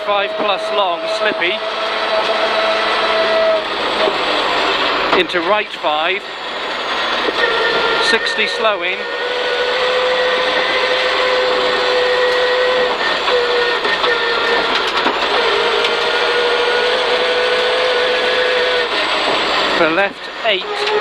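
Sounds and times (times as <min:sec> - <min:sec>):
car engine at high revs: 0:00.0 - 0:21.0
tyre and road noise: 0:00.0 - 0:21.0.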